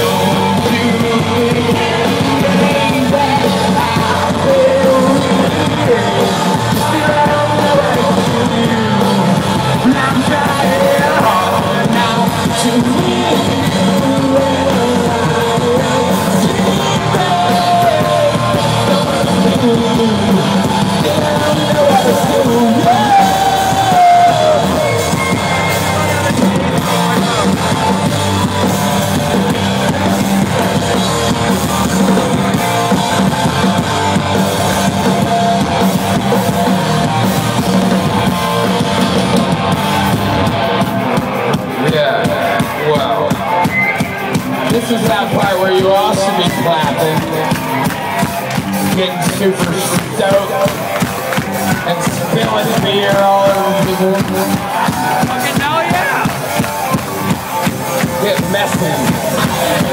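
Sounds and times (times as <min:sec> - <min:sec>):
guitars: 0:00.0 - 0:59.9
person singing: 0:00.0 - 0:59.9
rock band playing live: 0:00.0 - 0:59.9.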